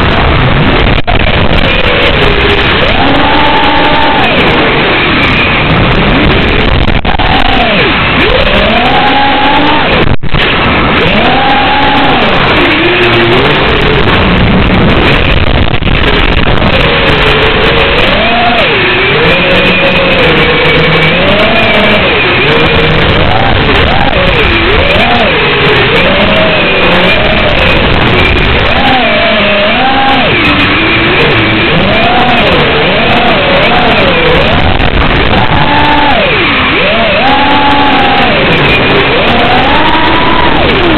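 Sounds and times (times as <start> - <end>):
drone motors whining: 0.0 - 40.9
loud rushing noise: 0.0 - 40.9.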